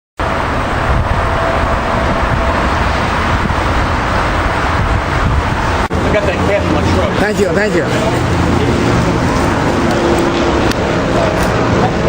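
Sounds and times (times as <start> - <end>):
road traffic rumble: 0.2 - 12.0.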